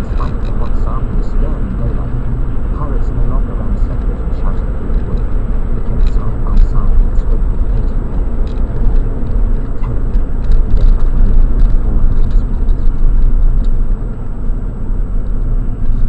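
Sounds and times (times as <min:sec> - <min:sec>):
car tyre and engine rumble: 0:00.0 - 0:16.0.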